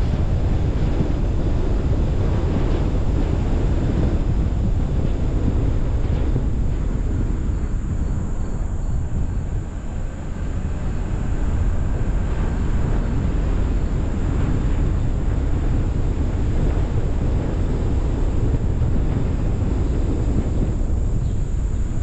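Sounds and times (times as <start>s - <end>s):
car road noise: 0.0s - 22.0s
wind rushing over microphone: 0.0s - 22.0s.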